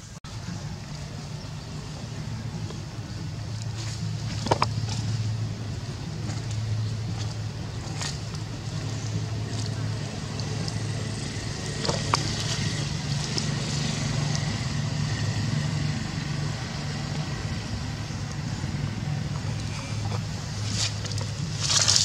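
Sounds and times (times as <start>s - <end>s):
low engine-like hum: 0.0s - 22.0s.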